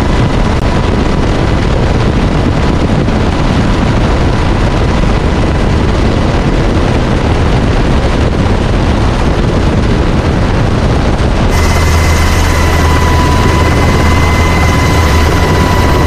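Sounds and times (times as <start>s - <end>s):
aircraft wind and engine noise: 0.0s - 16.0s.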